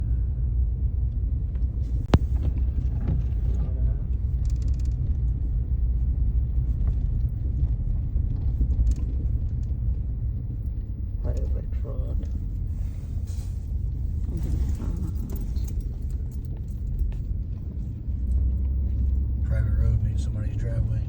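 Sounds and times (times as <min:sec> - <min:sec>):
car rumbling in motion: 0:00.0 - 0:21.0.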